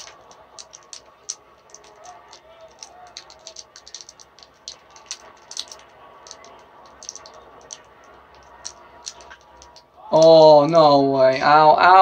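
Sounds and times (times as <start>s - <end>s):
faint small clicks and ticks: 0.0s - 10.3s.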